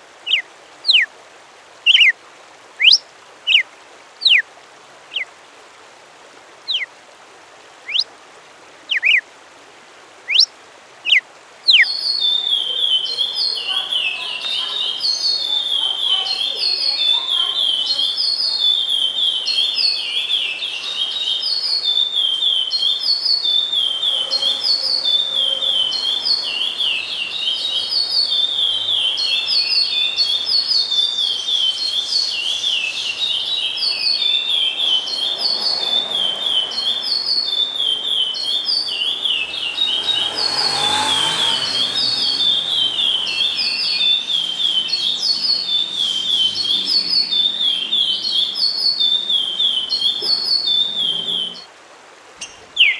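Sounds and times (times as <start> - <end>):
songbird singing: 0.0 - 1.1, 1.8 - 2.2, 2.8 - 4.5, 5.1 - 5.3, 6.6 - 6.9, 7.8 - 8.1, 8.8 - 9.3, 10.2 - 51.7, 52.4 - 52.9.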